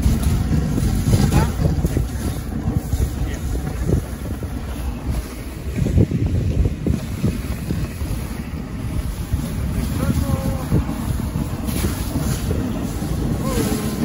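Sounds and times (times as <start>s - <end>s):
dog sled running on snow: 0.0s - 14.0s
low bumps: 0.0s - 14.0s
wind buffeting microphone: 0.0s - 14.0s.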